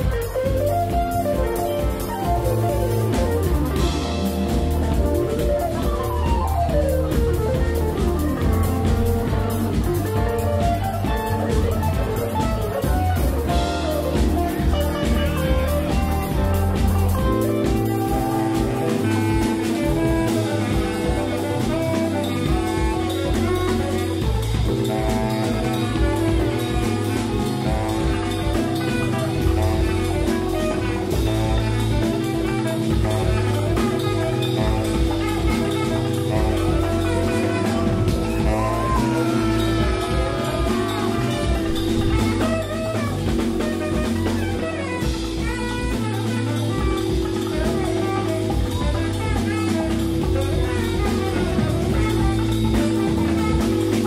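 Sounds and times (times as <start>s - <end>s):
bass guitar: 0.0s - 54.0s
drums: 0.0s - 54.0s
electric guitar: 0.0s - 54.0s
keyboard chords: 0.0s - 54.0s
saxophone: 0.0s - 54.0s.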